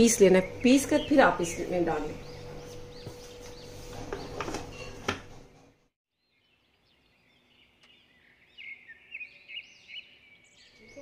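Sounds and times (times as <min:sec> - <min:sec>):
birds chirping: 0:00.0 - 0:05.3, 0:06.1 - 0:11.0.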